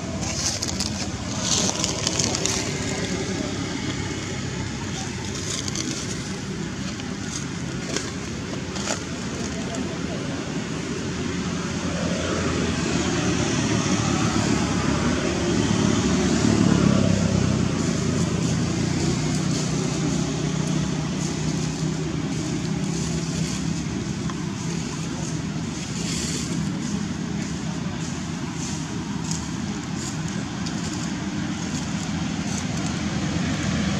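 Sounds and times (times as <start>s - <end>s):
vehicle engine hum: 0.0s - 33.9s.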